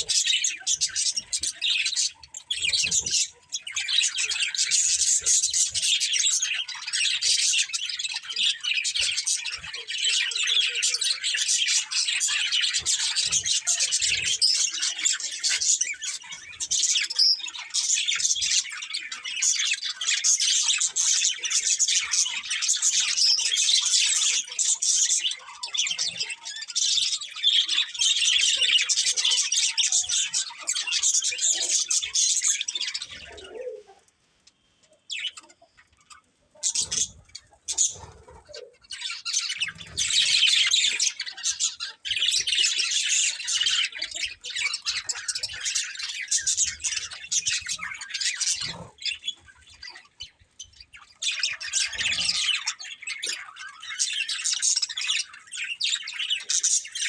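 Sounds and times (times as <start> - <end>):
budgerigars chirping: 0.0 - 33.8, 34.9 - 57.0.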